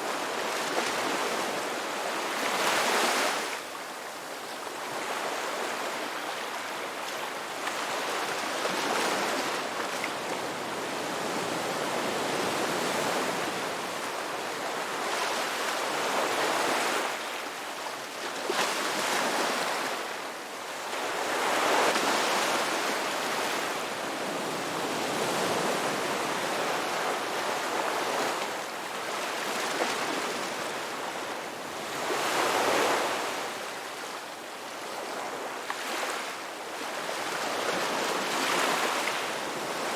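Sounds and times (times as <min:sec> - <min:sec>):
waves breaking on beach: 0:00.0 - 0:04.1, 0:04.7 - 0:34.2, 0:34.8 - 0:39.9.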